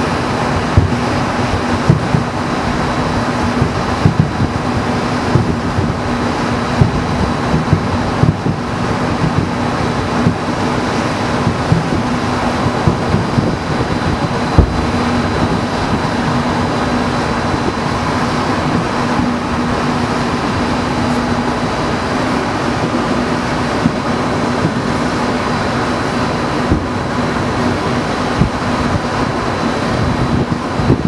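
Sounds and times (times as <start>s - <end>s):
distant fireworks booming: 0.0s - 31.0s
faint hum: 0.0s - 31.0s
rushing background noise: 0.0s - 31.0s.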